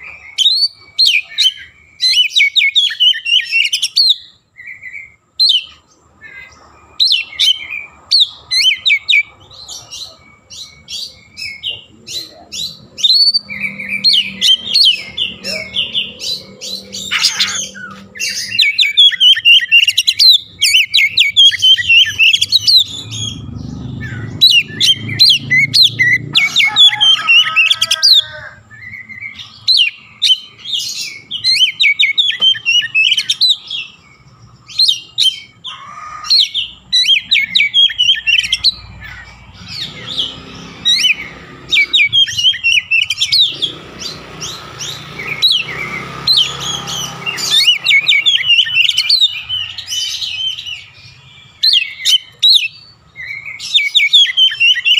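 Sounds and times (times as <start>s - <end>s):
bird singing chirps and whistles: 0.0s - 54.9s.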